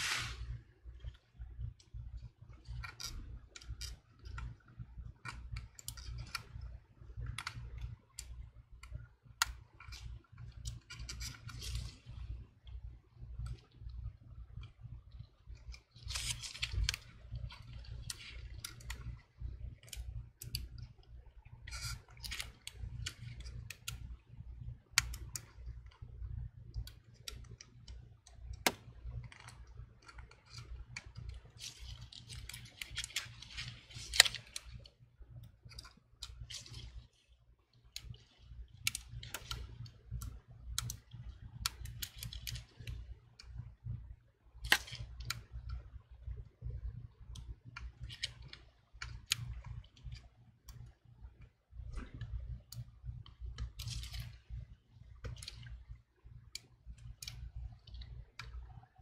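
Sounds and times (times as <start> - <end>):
low steady hum: 0.0 - 59.0
small clicks and scratchy rustling: 0.0 - 59.0.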